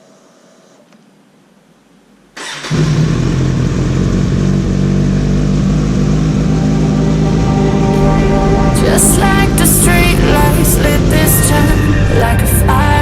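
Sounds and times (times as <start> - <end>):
motorcycle engine starting and running: 2.4 - 13.0.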